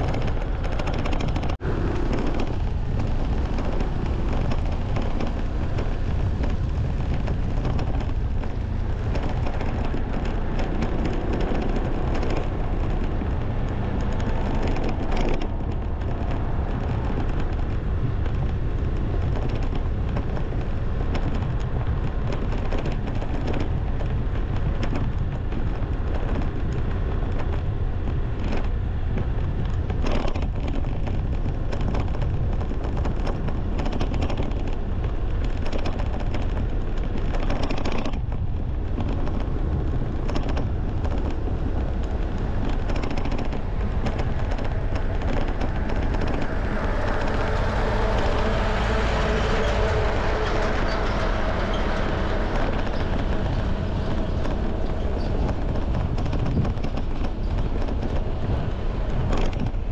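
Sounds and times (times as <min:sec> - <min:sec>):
low rumble of vehicle travel: 0:00.0 - 0:59.9
rapid crackling pops: 0:00.0 - 0:59.9
wind buffeting microphone: 0:00.0 - 0:59.9.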